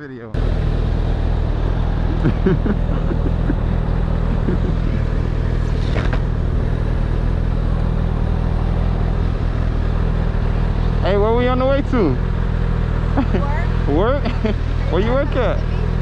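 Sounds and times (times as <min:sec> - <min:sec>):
motorcycle engine idling: 0:00.4 - 0:16.0.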